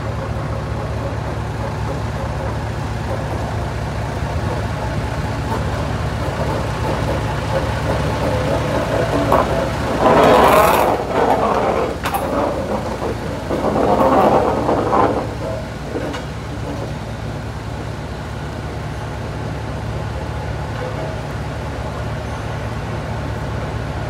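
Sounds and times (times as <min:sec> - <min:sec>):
diesel locomotive engine running: 0:00.0 - 0:24.0.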